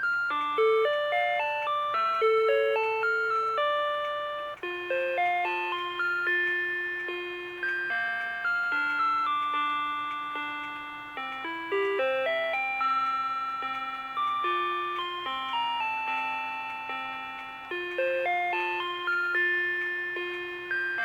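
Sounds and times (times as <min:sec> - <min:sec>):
electronic alarm clock melody: 0:00.0 - 0:21.0.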